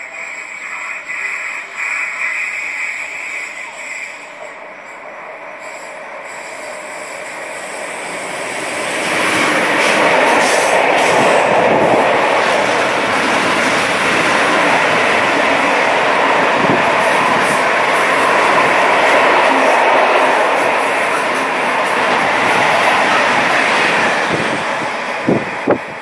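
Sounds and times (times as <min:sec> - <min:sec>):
freight train wheels clattering: 0:00.0 - 0:26.0.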